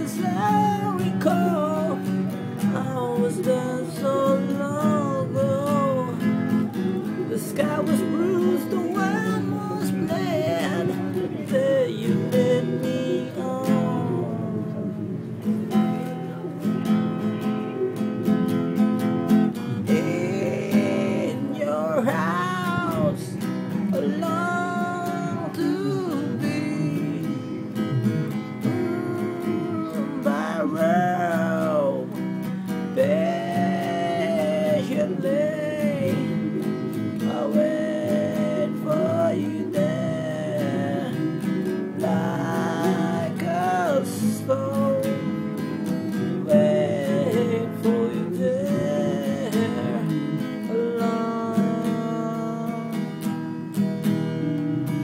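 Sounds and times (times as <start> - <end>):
man singing: 0.0 - 15.2, 19.6 - 53.4
acoustic guitar strumming: 0.0 - 55.0.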